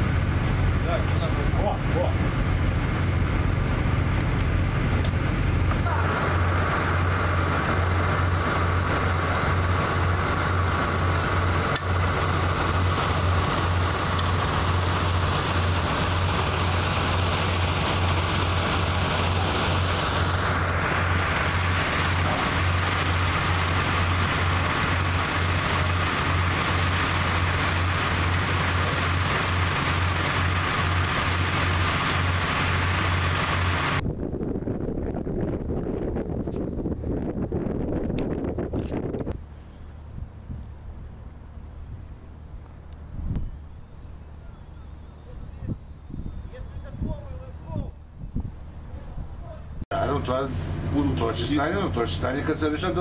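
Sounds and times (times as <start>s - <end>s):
machinery whine: 0.0s - 48.9s
low pulsing engine drone: 0.0s - 53.0s.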